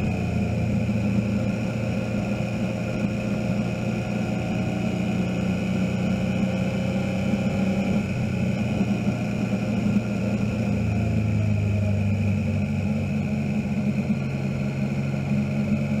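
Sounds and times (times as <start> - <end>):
motorcycle engine: 0.0 - 16.0
road noise: 0.0 - 16.0.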